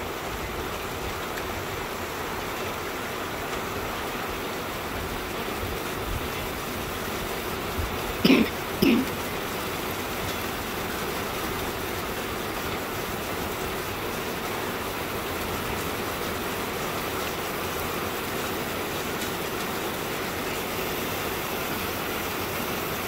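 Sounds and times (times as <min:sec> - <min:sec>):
steady rain hiss: 0:00.0 - 0:23.0.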